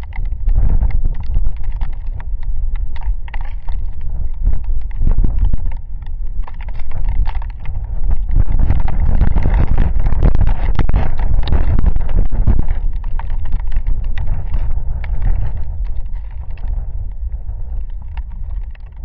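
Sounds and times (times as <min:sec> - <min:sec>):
raindrops ticking: 0:00.0 - 0:19.0
wind gusting against microphone: 0:00.0 - 0:19.0.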